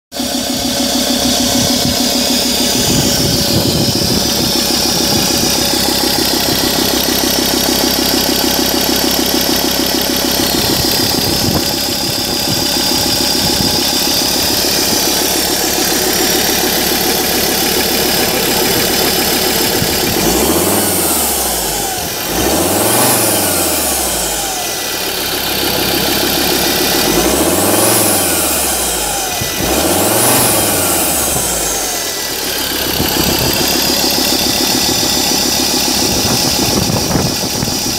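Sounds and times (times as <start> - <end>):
diesel engine idling and revving: 0.1 - 37.9.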